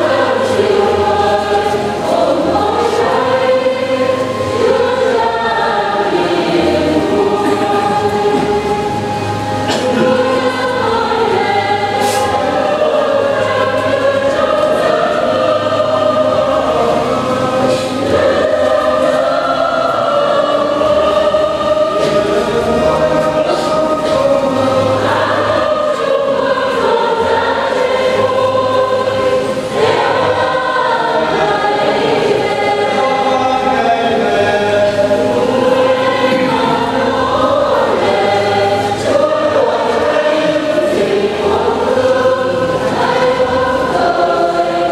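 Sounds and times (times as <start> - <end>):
choir singing a hymn: 0.0 - 44.9.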